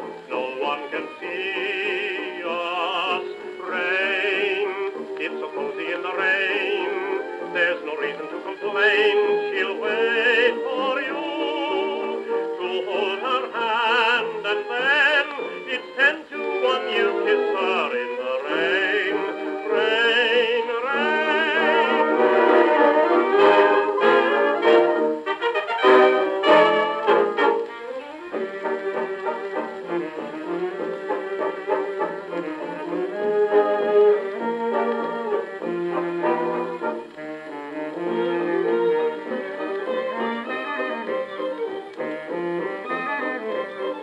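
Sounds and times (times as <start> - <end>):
dance orchestra record on phonograph: 0.0 - 44.0.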